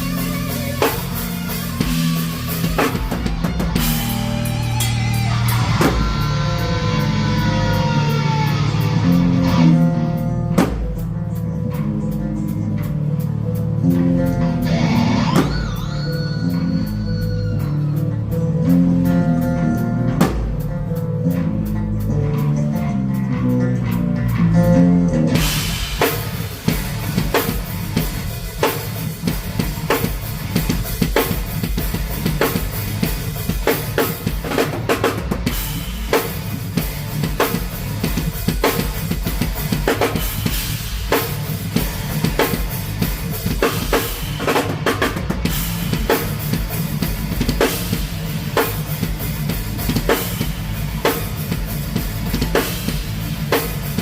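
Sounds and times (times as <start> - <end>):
drum kit beat: 0.0 - 54.0
live band playing: 0.0 - 54.0
low bass notes: 0.0 - 54.0.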